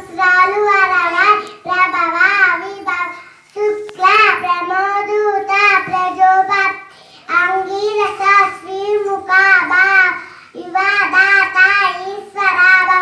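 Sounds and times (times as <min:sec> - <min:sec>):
girl singing into a microphone: 0:00.0 - 0:13.0.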